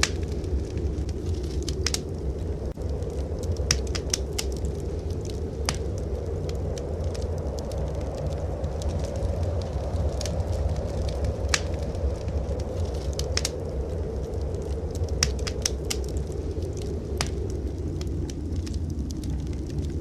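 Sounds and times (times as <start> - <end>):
low rumble: 0.0 - 20.0
wood fire crackling and popping: 0.0 - 20.0.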